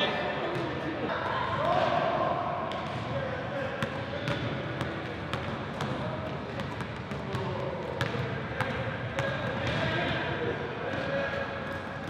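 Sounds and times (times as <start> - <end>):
players' voices: 0.0 - 12.0.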